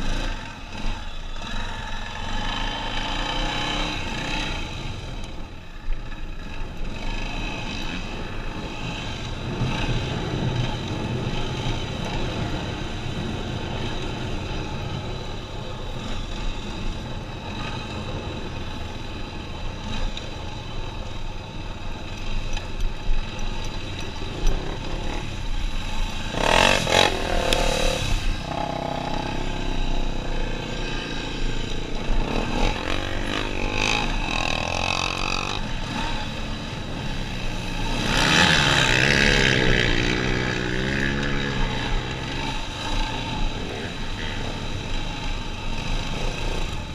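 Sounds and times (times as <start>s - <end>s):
quad bike engine running: 0.0s - 46.9s.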